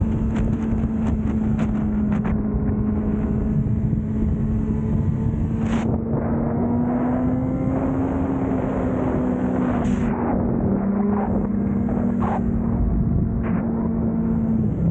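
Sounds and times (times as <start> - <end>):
motorcycle engine running: 0.0 - 14.9
wind rushing over microphone: 0.0 - 14.9.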